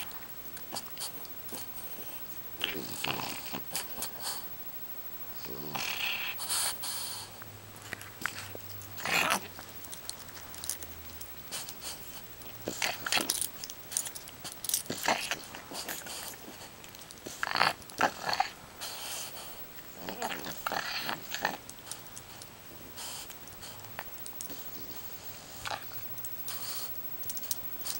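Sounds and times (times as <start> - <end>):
dog and kitten mouthing and biting: 0.0 - 27.9.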